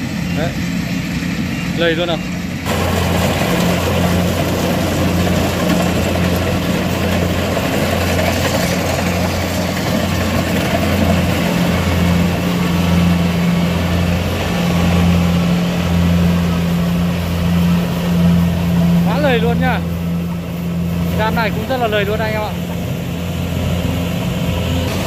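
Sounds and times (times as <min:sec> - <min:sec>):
combine harvester engine drone: 0:00.0 - 0:25.0.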